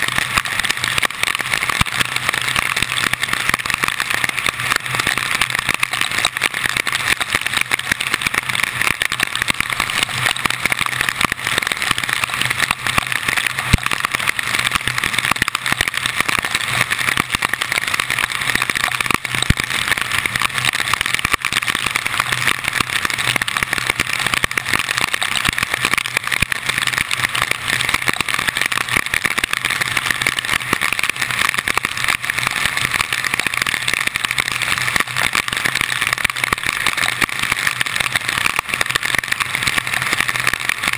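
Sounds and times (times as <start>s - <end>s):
raindrops striking camera: 0.0s - 40.9s.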